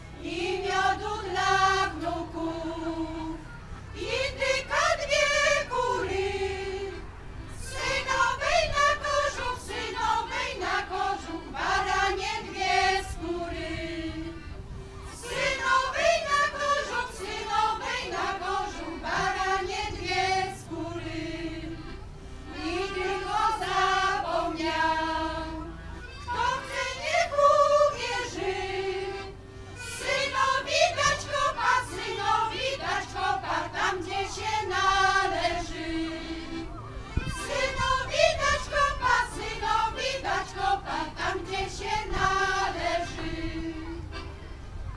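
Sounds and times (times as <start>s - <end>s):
women's choir singing: 0.0s - 44.2s
accordion: 0.0s - 44.9s.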